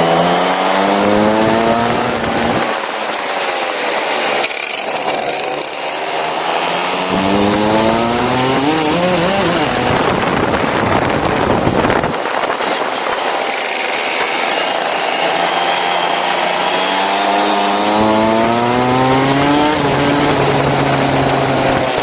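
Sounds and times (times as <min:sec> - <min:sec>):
constant rushing noise: 0:00.0 - 0:22.0
go-kart engine running: 0:00.0 - 0:22.0.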